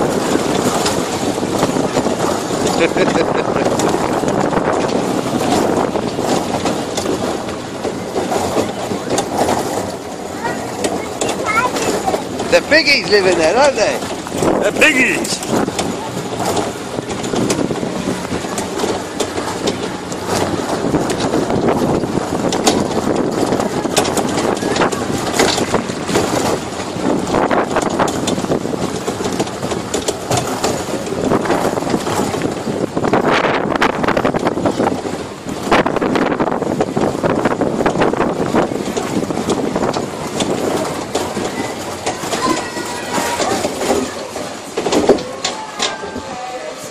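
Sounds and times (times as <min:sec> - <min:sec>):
barrel cars rattling: 0:00.0 - 0:46.9
tractor engine running: 0:00.0 - 0:46.9.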